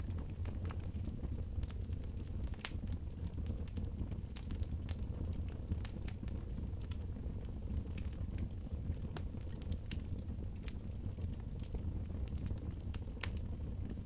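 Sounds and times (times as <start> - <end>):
wood fire snapping: 0.0 - 14.0.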